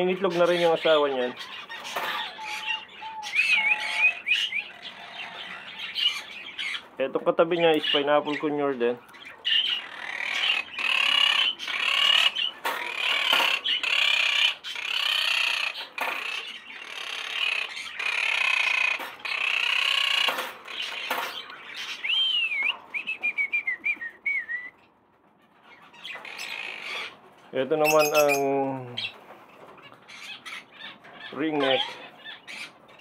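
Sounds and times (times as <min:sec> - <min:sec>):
parrots squawking: 0:00.0 - 0:22.6, 0:25.4 - 0:33.0.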